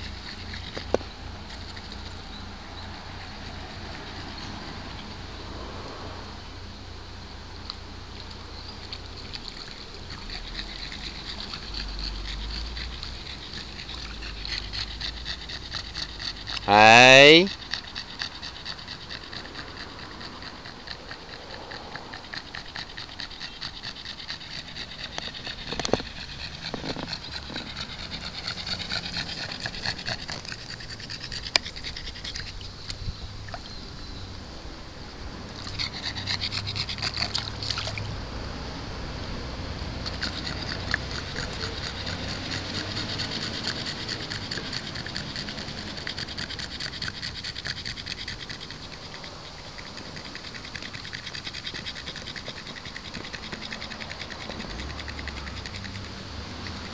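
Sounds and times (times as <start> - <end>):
dog panting rapidly: 0.0 - 5.3, 8.3 - 33.0, 35.4 - 56.9.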